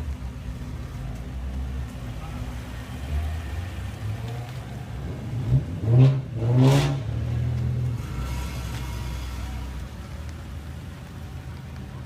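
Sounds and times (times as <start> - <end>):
loud car engine idling and revving: 0.0 - 12.0.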